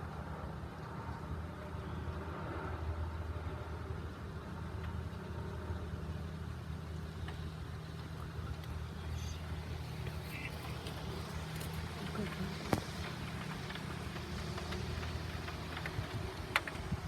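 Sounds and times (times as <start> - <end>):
rain on a roof: 0.0 - 17.0.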